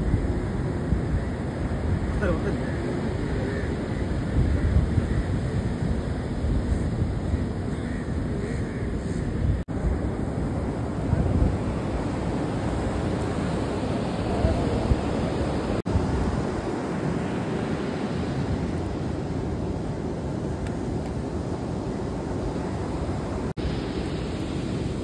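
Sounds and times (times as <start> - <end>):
rough sea surf rumbling: 0.0 - 25.0
wind buffeting microphone: 0.0 - 25.0.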